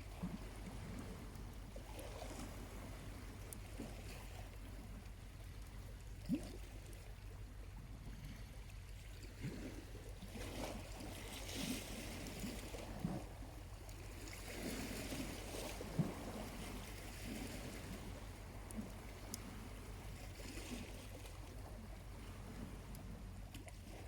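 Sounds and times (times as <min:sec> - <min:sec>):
small waves lapping: 0:00.0 - 0:24.0
water splashes: 0:00.0 - 0:24.0.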